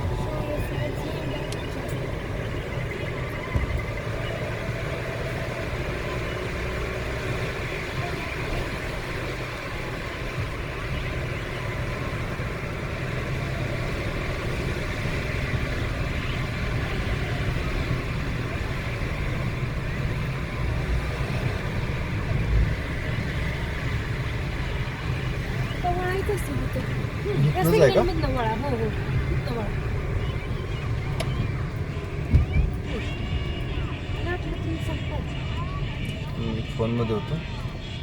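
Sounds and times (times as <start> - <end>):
car engine rumble: 0.0 - 38.0
tyre and road noise: 0.0 - 38.0.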